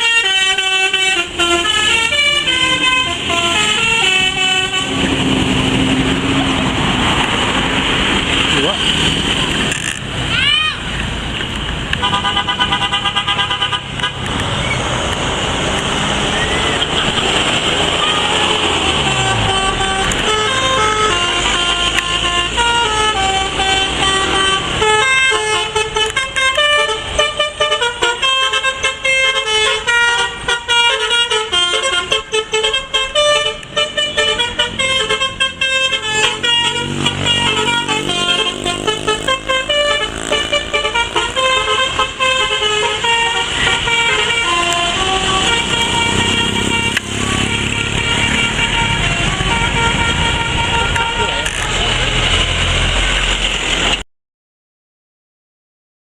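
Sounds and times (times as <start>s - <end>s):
multi-tone bus horn tune: 0.0s - 6.8s, 11.9s - 14.5s, 15.7s - 52.4s
rushing noise: 1.2s - 26.4s, 33.0s - 54.0s.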